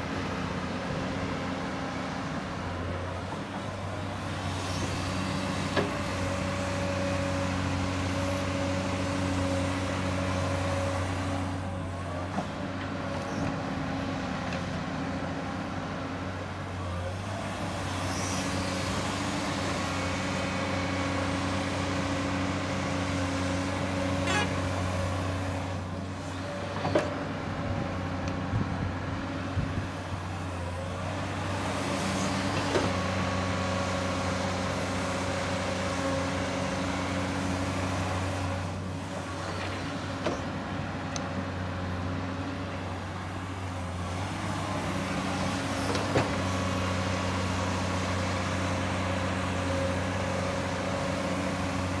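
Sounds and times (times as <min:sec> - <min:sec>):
excavator diesel engine: 0:00.0 - 0:52.0.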